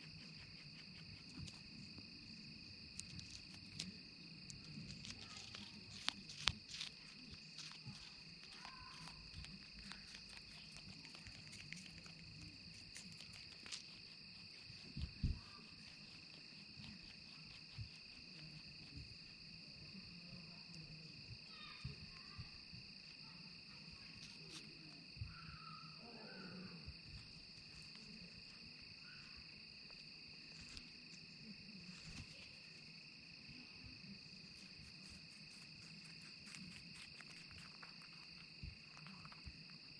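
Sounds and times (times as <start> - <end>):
rabbit nibbling: 0.0 - 26.0, 26.7 - 39.9
insects chorus: 0.0 - 39.9.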